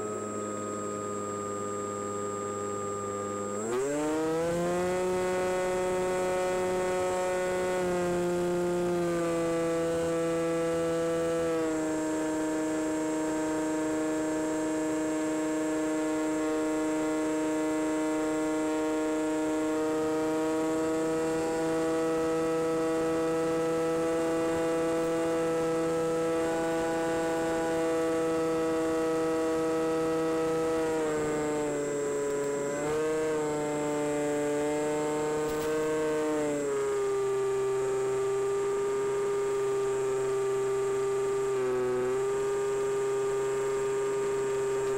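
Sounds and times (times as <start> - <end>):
electric motor and propeller whine: 0.0 - 44.9.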